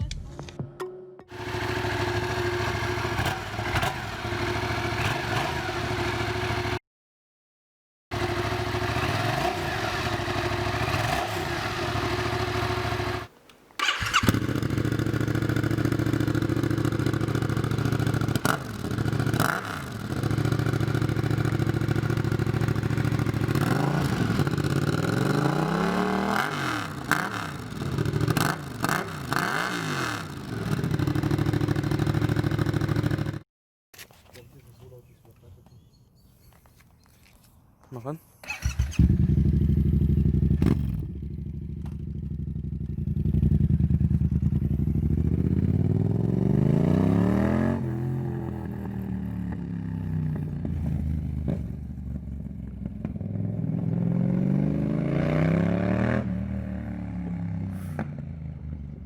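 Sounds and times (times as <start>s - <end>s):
motorcycle engine revving: 1.3s - 6.8s, 8.1s - 33.4s, 38.4s - 59.0s.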